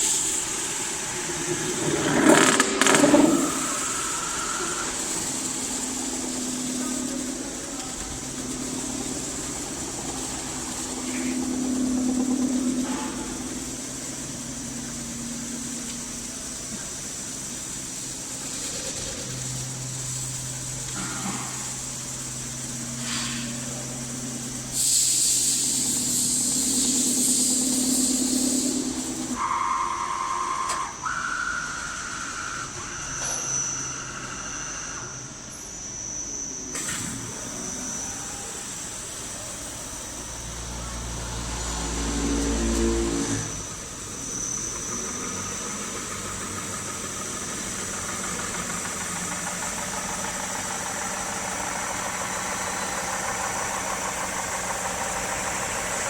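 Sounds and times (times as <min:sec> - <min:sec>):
deeper machine hum: 0:00.0 - 0:29.4, 0:30.8 - 0:56.0
metal spinning machine hum: 0:00.0 - 0:56.0.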